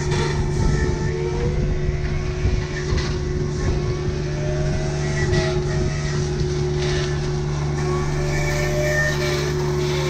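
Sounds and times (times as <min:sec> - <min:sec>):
diesel engine running: 0:00.0 - 0:10.0
thin whine: 0:00.0 - 0:10.0.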